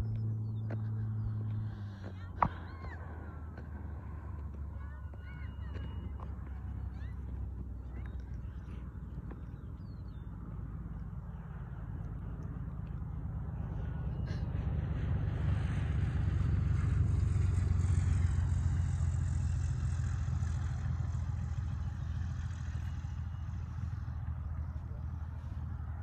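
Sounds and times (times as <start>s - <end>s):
small plane engine drone: 0.0s - 26.0s.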